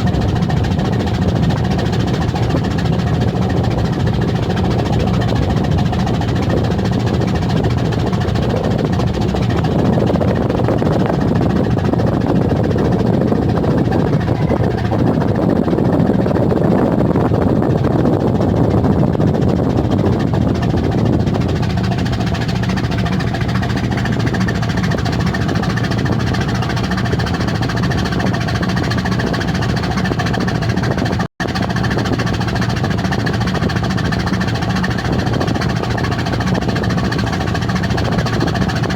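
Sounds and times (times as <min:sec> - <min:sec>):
ship engine drone: 0:00.0 - 0:38.9
water noise: 0:00.0 - 0:38.9
wind: 0:00.0 - 0:38.9.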